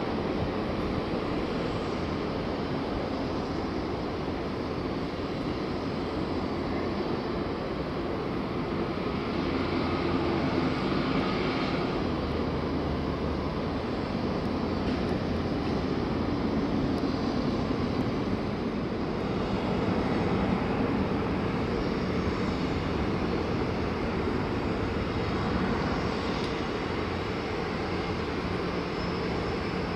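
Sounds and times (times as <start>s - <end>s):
distant jet engines roaring: 0.0s - 29.9s.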